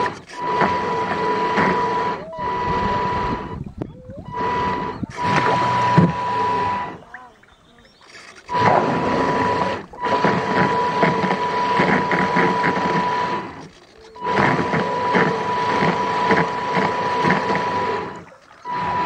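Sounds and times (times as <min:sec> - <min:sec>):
electric motor whine and rattle: 0:00.0 - 0:07.0, 0:07.9 - 0:19.0.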